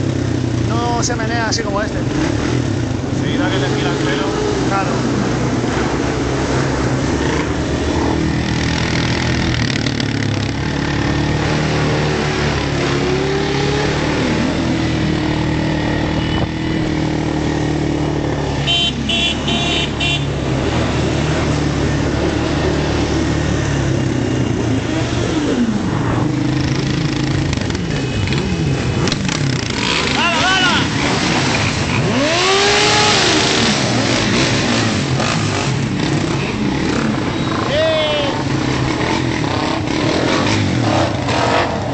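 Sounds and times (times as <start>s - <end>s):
motorbike engines running: 0.0s - 41.9s.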